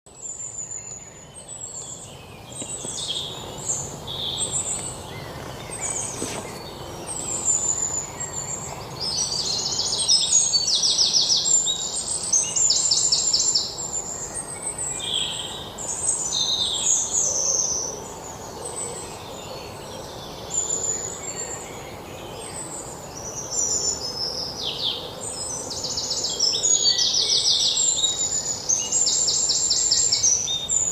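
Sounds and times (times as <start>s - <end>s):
songbirds singing and trilling: 0.1s - 30.9s.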